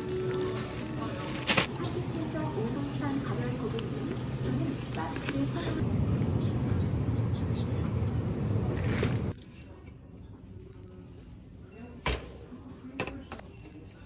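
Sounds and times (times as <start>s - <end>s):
shop background noise: 0.0s - 14.0s.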